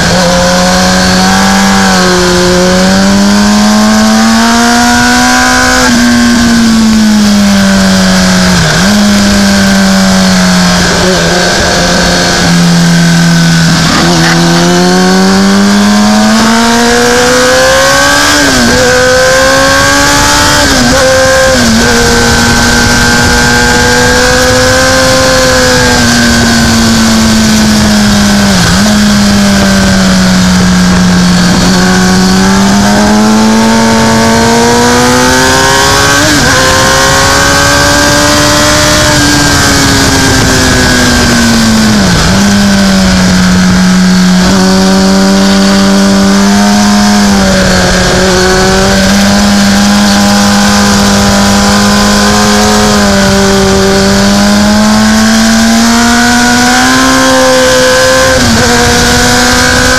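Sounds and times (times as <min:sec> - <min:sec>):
motorcycle engine at high revs: 0:00.0 - 0:59.9
wind rush: 0:00.0 - 0:59.9.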